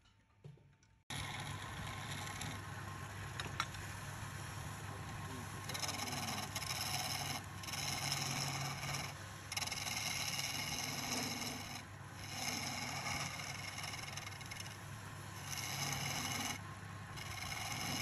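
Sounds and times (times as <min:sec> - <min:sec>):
chisel scraping spinning wood: 0:01.1 - 0:03.9, 0:04.6 - 0:18.0
wood lathe humming: 0:01.1 - 0:18.0.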